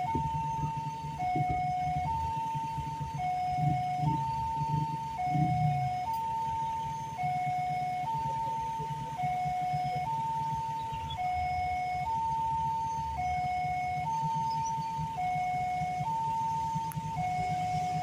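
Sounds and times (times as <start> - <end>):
steady low rumble: 0.0 - 18.0
two-tone level crossing siren: 0.0 - 18.0.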